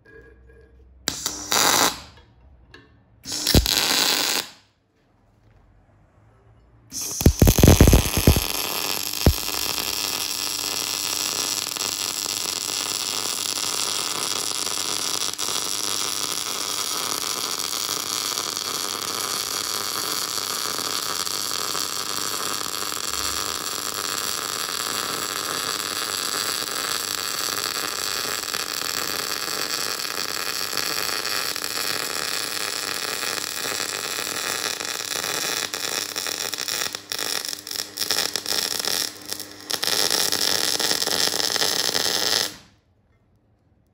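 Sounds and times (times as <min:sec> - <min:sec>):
welder arc hissing: 0:01.1 - 0:02.1, 0:03.3 - 0:04.6, 0:06.9 - 0:42.7.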